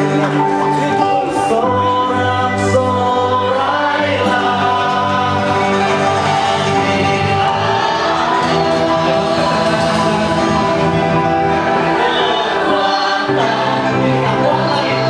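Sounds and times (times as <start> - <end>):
gospel band playing: 0.0 - 15.0
singers performing upbeat song: 0.0 - 15.0.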